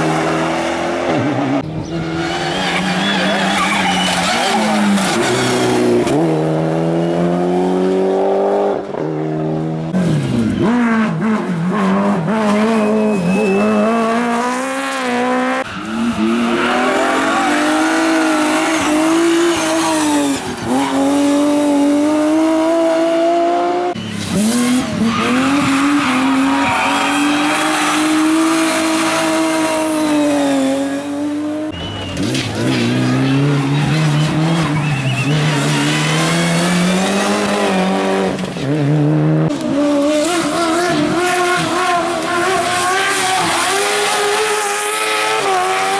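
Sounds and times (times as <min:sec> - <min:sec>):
race car engines at high revs: 0:00.0 - 0:45.9.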